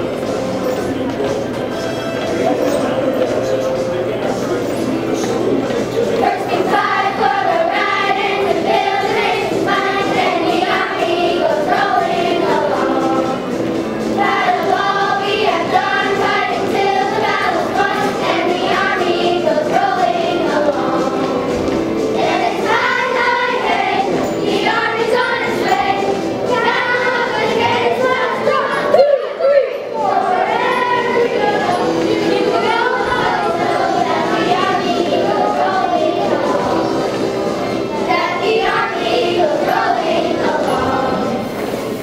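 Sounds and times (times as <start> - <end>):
song with singing over music: 0.0 - 42.0.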